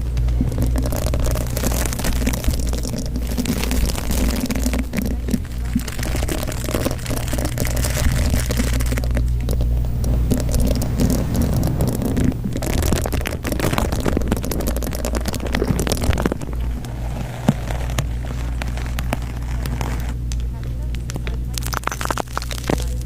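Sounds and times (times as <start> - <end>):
dense irregular crackling: 0.0 - 23.0
steady low hum: 0.0 - 23.0.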